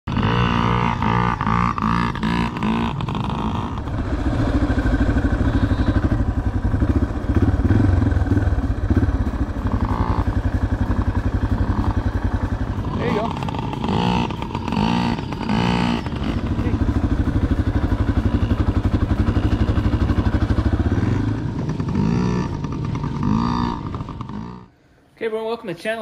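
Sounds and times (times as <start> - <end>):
dirt bike engine revving: 0.1 - 24.8
vehicle engine throb: 0.1 - 24.9.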